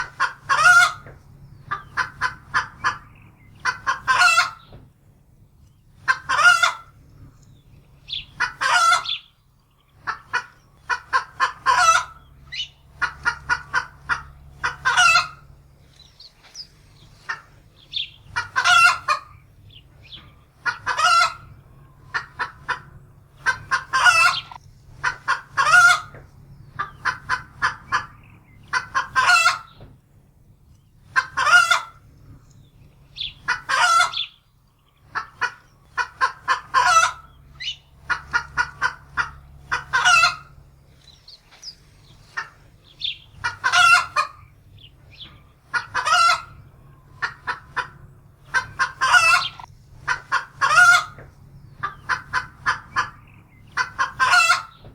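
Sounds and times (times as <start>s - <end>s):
hen cackling in alarm: 0.0s - 4.7s, 6.0s - 7.0s, 8.1s - 9.4s, 10.0s - 15.9s, 17.0s - 29.8s, 31.1s - 32.0s, 33.1s - 34.4s, 35.0s - 40.7s, 41.3s - 54.9s.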